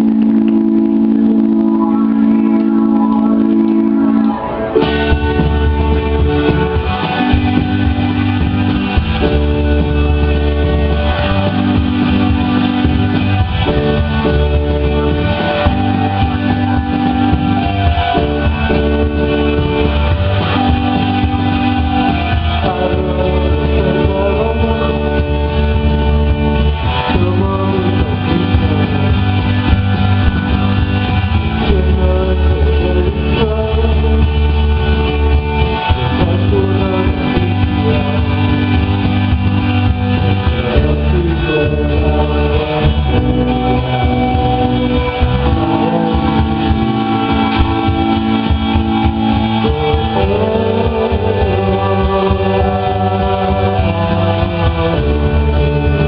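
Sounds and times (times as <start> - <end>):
bass guitar: 0.0 - 56.0
drums: 0.0 - 56.0
electric guitar: 0.0 - 56.0
person singing: 0.0 - 56.0
synthesizer: 0.0 - 56.0.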